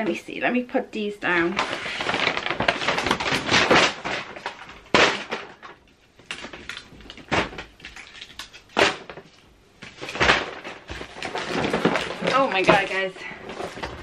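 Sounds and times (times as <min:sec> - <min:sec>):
items clunking down: 0:01.6 - 0:09.3, 0:09.9 - 0:14.0
bags rustling: 0:01.6 - 0:14.0.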